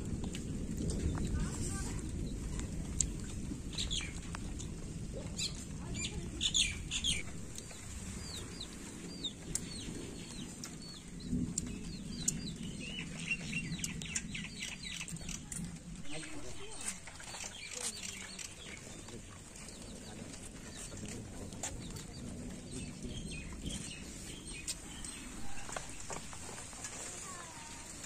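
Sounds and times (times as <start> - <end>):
steady low rumble: 0.0 - 28.0
small birds chirping: 0.3 - 28.0.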